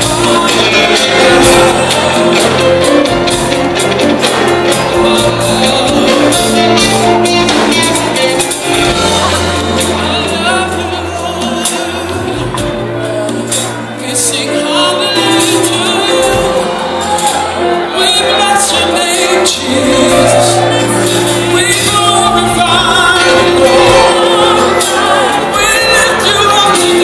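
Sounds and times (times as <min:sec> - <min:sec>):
lead singer singing: 0:00.0 - 0:27.0
steady bass line: 0:00.0 - 0:27.0
worship band playing through pa: 0:00.0 - 0:27.0.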